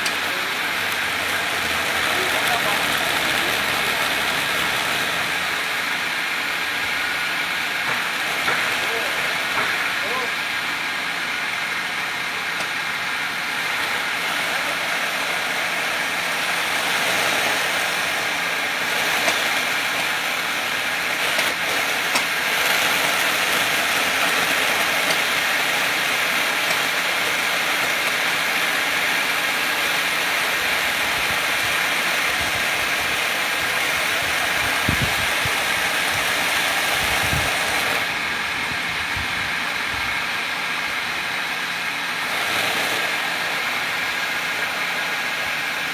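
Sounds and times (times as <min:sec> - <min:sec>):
drilling rig humming: 0:00.0 - 0:45.9.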